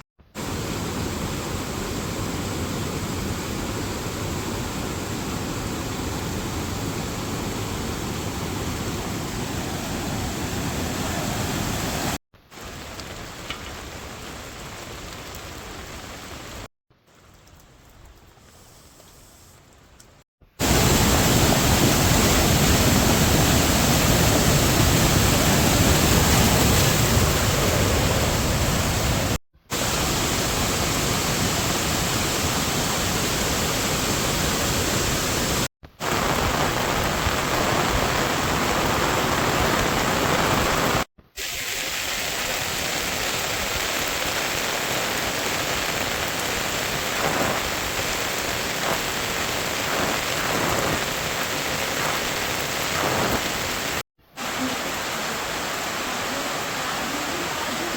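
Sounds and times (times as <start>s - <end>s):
heavy rain hissing: 0.4s - 16.7s, 20.6s - 57.9s.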